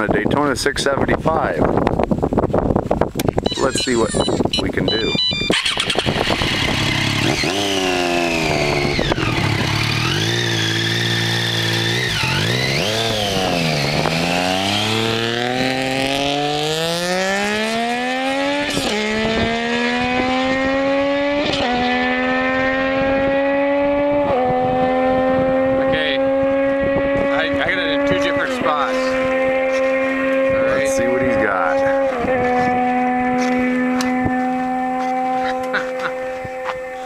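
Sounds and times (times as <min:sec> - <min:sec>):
motorcycle engine revving hard: 0:05.4 - 0:37.0.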